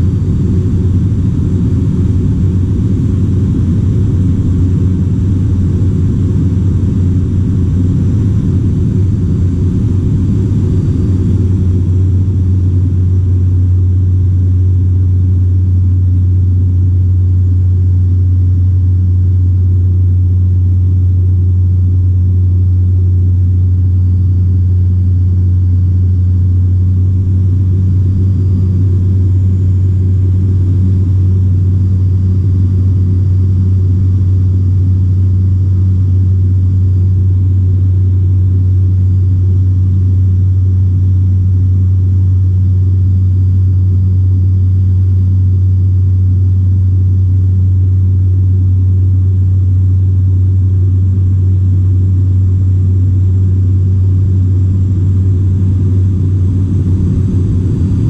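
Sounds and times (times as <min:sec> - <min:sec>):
aircraft engine droning in cockpit: 0:00.0 - 0:58.0.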